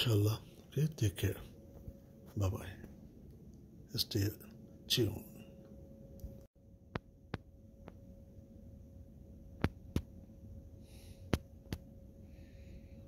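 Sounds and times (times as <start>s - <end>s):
air conditioning hum: 0.0s - 13.0s.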